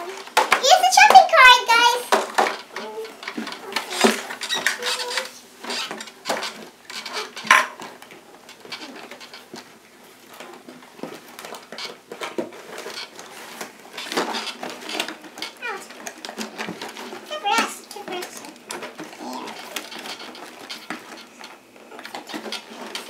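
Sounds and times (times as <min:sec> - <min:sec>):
plastic toys clattering: 0:00.0 - 0:23.0.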